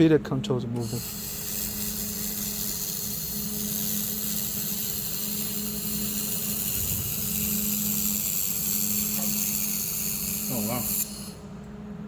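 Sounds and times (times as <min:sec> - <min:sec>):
laser welder hum and hiss: 0:00.8 - 0:12.0.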